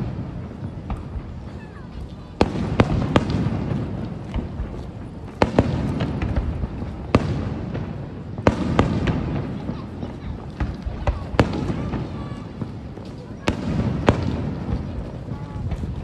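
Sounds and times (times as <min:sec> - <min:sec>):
distant fireworks bangs: 0:00.0 - 0:16.0.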